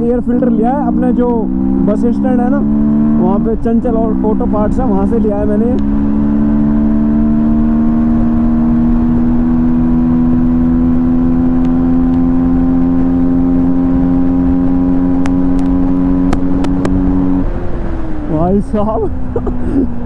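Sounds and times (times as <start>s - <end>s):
motorcycle engine at high revs: 0.0s - 19.5s.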